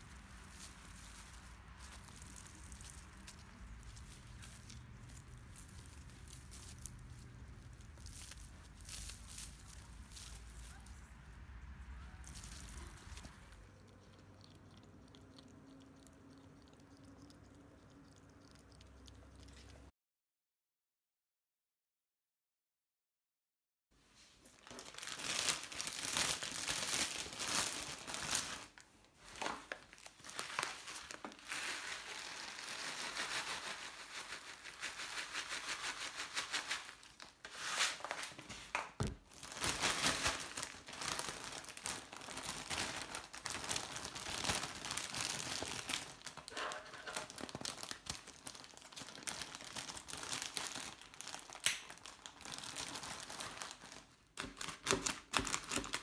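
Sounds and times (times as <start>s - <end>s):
plastic bag crinkling: 0.0s - 11.1s, 12.2s - 15.2s, 24.4s - 56.0s.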